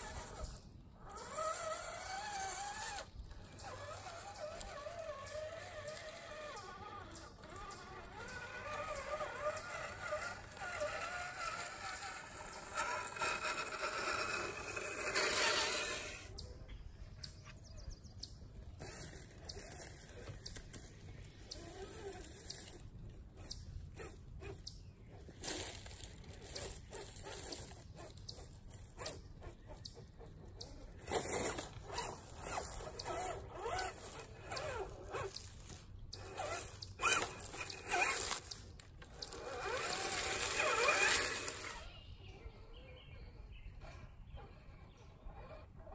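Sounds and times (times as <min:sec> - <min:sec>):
electric motor and gears whining: 0:00.0 - 0:45.9.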